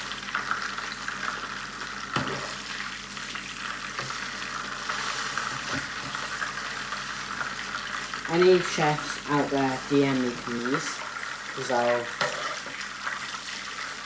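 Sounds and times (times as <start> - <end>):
burger sizzling in a frying pan: 0.0 - 14.0.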